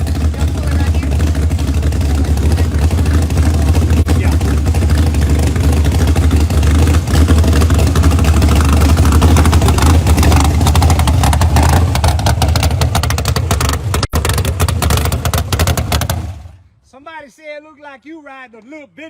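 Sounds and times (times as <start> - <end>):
car engine running hard: 0.0 - 16.6.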